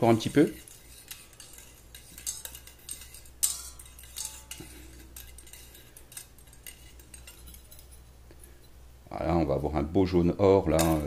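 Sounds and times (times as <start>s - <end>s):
metal wire clinking on saucepan rim: 0.0s - 9.9s, 10.6s - 11.0s.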